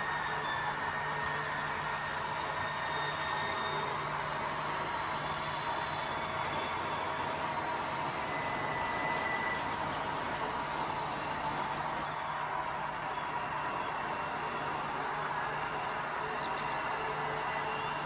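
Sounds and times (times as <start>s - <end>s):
high-pitched wheel squeals: 0.0s - 18.0s
model train wheels on rails: 0.0s - 18.0s.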